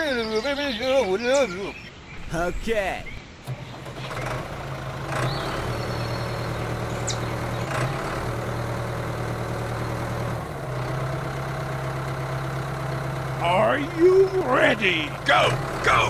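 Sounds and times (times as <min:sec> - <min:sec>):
tractor engine idling: 0:02.3 - 0:16.0.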